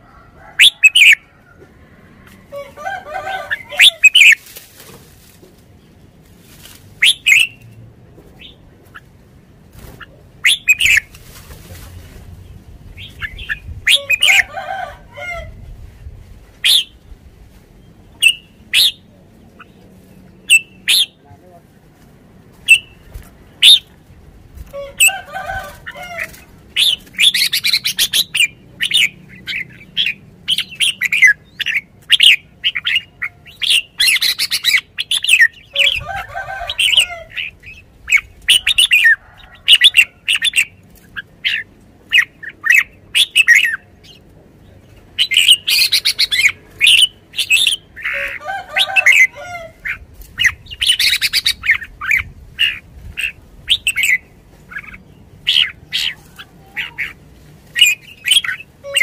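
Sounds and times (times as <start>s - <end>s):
longer lower bird phrases: 0.0s - 1.3s, 2.5s - 4.5s, 6.9s - 7.8s, 8.4s - 15.6s, 16.6s - 17.1s, 17.8s - 21.9s, 24.6s - 59.0s.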